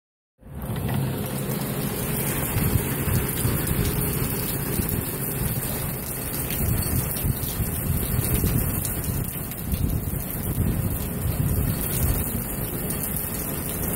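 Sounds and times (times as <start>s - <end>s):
heavy rain pouring: 0.4s - 13.9s
wind rumbling on microphone: 0.5s - 13.9s.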